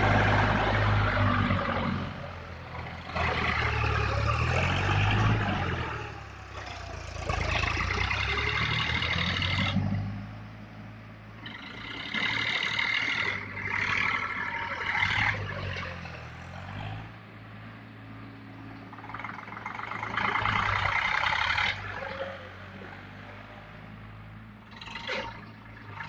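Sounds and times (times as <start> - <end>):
tractor diesel engines humming: 0.0 - 26.0
tractors driving through mud: 0.0 - 26.0.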